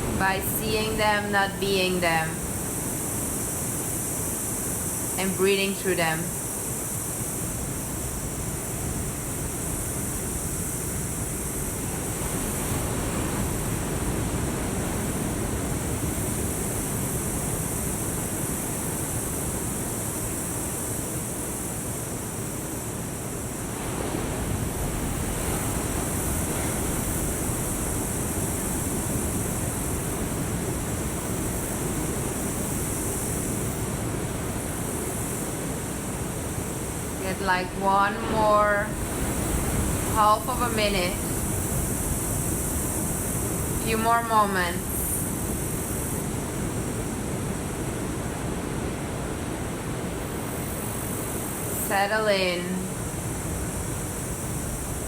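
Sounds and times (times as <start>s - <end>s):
ocean surf washing ashore: 0.0s - 55.0s
steady high hiss: 0.0s - 55.0s.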